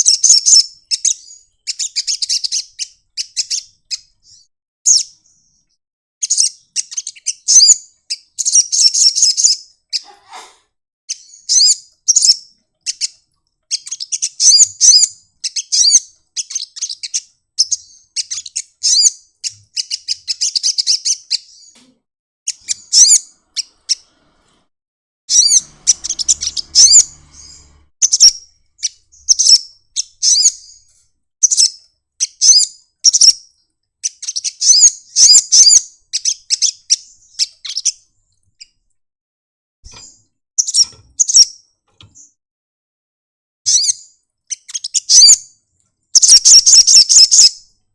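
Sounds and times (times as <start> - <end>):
bird singing trills: 0.0 - 10.1, 11.1 - 21.8, 22.5 - 24.1, 25.3 - 33.4, 34.0 - 38.0, 39.9 - 41.5, 43.7 - 45.5, 46.2 - 47.7.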